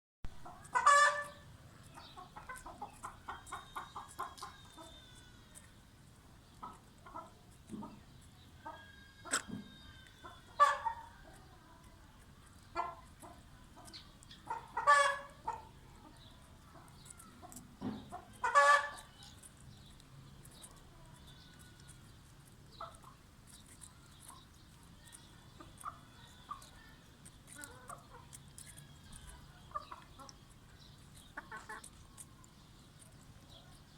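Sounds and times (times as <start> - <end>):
chickens clucking: 0.3 - 33.9.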